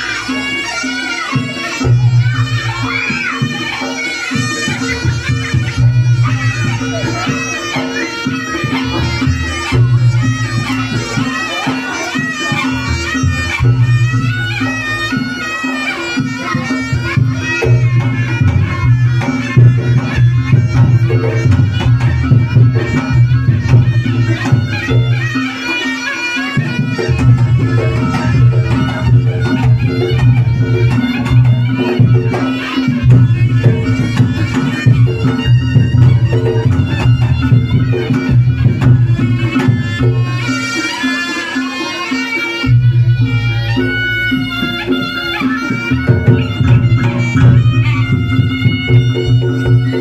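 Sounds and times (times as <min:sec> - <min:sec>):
percussion: 0:00.0 - 0:50.0
shrill shawm melody: 0:00.0 - 0:50.0.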